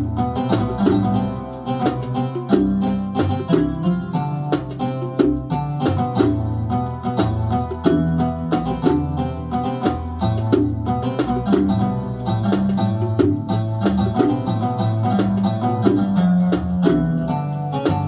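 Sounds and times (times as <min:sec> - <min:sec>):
bass line: 0:00.0 - 0:18.0
hand drum percussion: 0:00.0 - 0:18.0.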